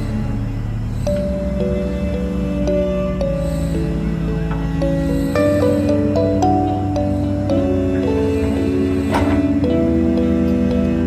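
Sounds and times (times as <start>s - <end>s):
soft gentle instrumental music: 0.0s - 11.0s.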